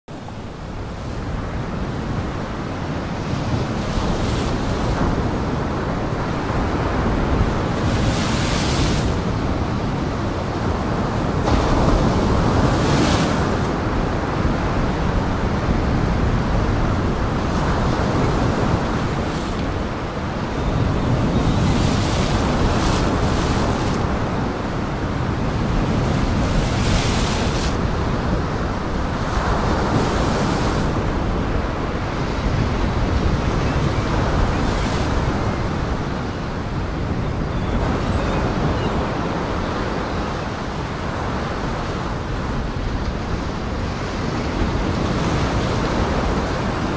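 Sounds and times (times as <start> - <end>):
wind: 0.0 - 46.9
waves crashing against a pier: 0.6 - 37.0, 37.8 - 46.9.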